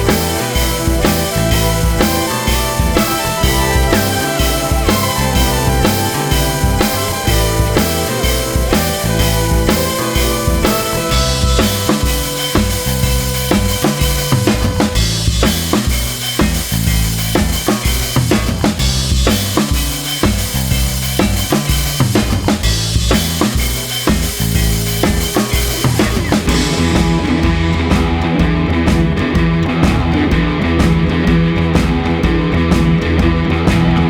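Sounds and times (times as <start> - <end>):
rock music with drums and bass: 0.0 - 34.0.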